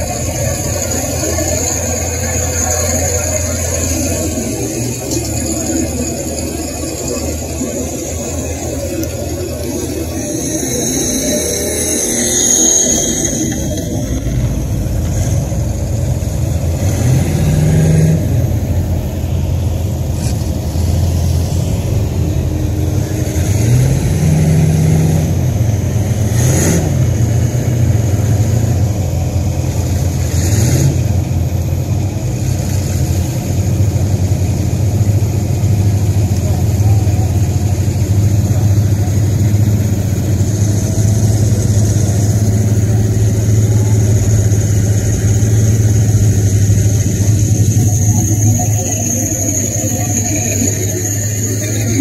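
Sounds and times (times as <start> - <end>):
pickup truck engine revving: 0.0 - 52.0.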